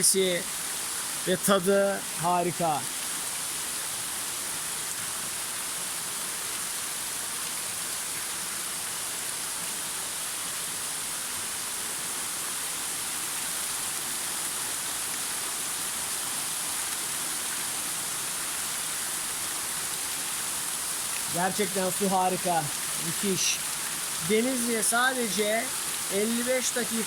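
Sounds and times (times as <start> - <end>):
waterfall rushing and splashing: 0.0 - 27.0.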